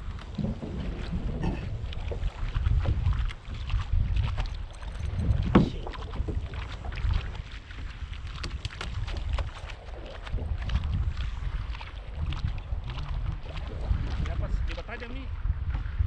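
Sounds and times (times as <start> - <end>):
water lapping against boat hull: 0.0 - 16.0
wind buffeting microphone: 0.0 - 16.0.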